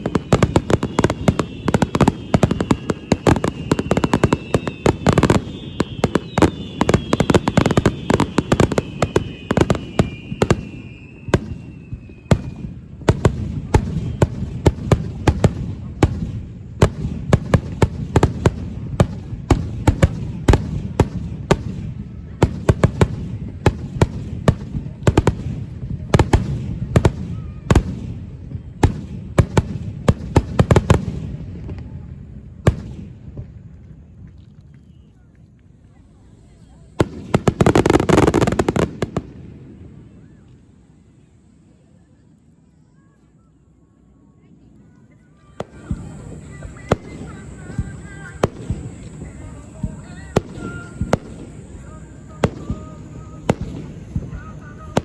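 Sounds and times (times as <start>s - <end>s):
fireworks bangs and crackling: 0.0s - 42.4s, 44.4s - 55.0s
falling fireworks whistles: 0.0s - 55.0s.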